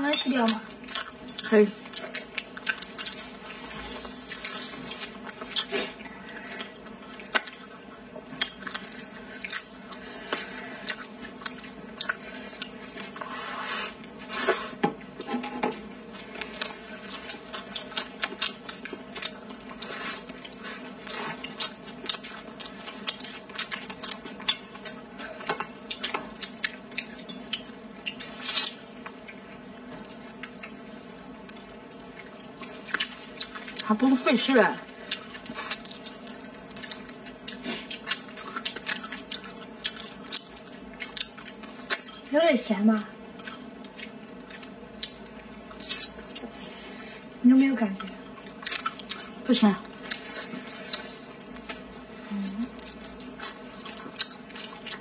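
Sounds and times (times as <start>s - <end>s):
faint steady hum: 0.0s - 55.0s
people chewing: 0.0s - 55.0s.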